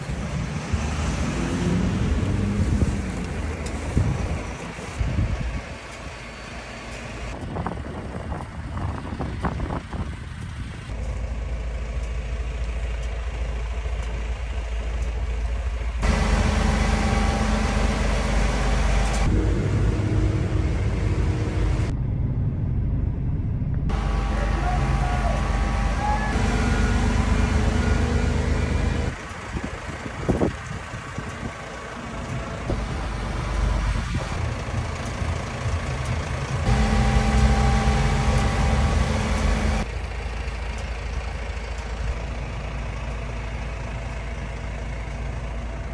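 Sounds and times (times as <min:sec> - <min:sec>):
garbage truck engine running: 0:00.0 - 0:21.9, 0:23.9 - 0:45.9.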